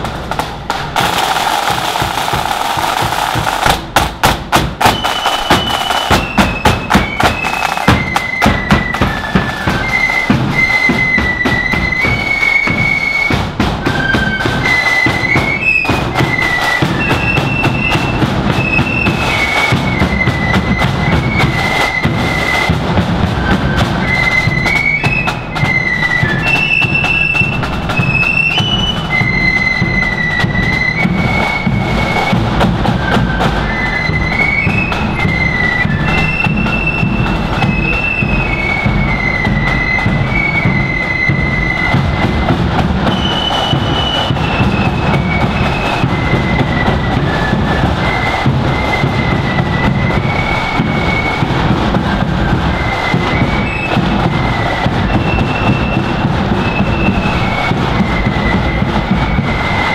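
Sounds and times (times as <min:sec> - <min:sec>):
flute tune: 0:00.0 - 0:59.9
side drums rattling: 0:00.0 - 0:59.9.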